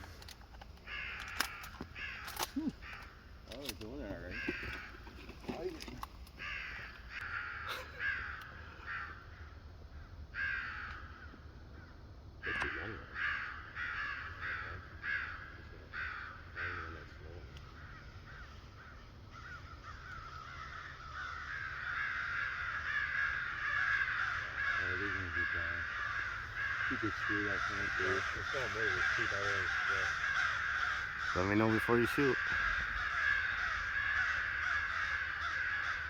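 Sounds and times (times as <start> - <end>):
crows cawing: 0.0 - 36.0.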